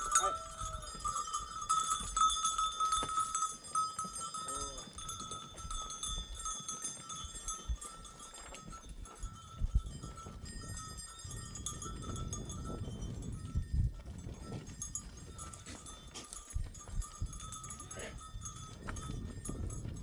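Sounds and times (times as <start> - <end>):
animal bells ringing: 0.0 - 20.0.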